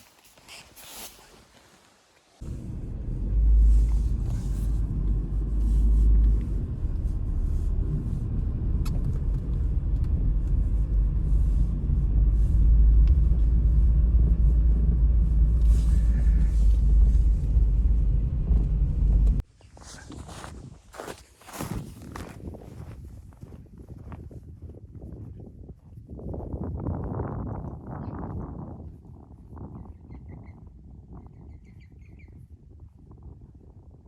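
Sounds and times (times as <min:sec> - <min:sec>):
wind buffeting microphone: 0:02.4 - 0:19.4, 0:20.1 - 0:34.0.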